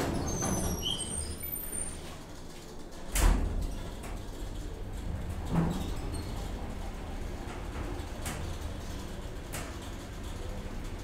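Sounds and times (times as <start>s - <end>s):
elevator car rumble: 0.0s - 11.0s.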